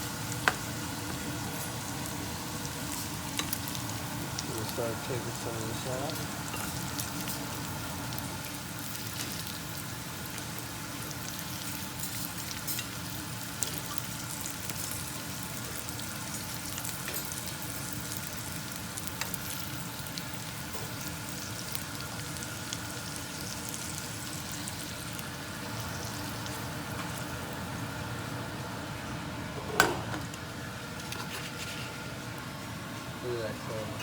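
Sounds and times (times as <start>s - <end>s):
chicken sizzling in a pan: 0.0s - 29.2s.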